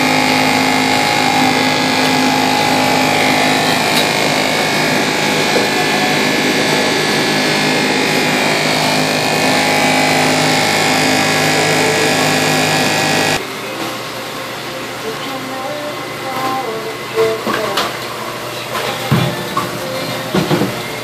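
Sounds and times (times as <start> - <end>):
pump humming: 0.0 - 21.0.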